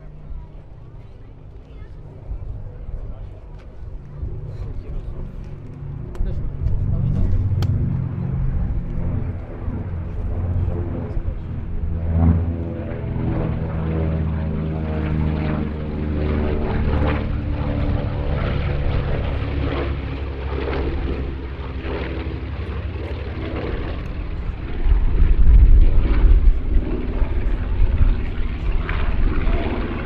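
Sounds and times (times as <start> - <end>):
propeller planes droning overhead: 0.0 - 30.0.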